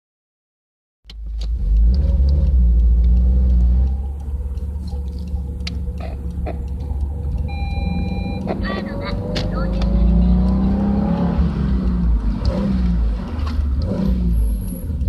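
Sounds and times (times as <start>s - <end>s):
car engine rumbling: 1.1s - 15.0s.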